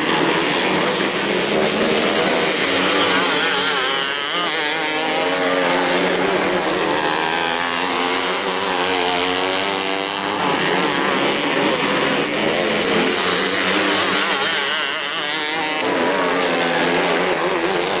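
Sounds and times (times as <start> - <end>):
racing car engine: 0.0 - 18.0.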